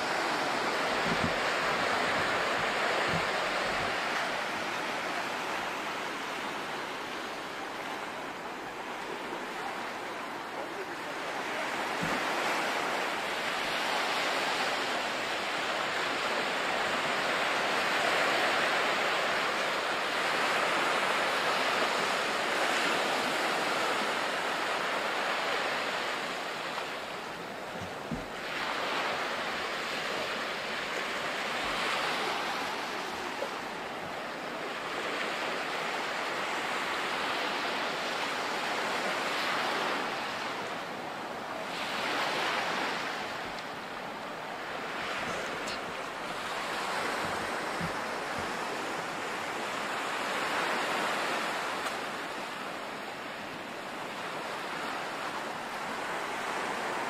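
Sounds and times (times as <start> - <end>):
sea waves washing onto beach: 0.0 - 57.0.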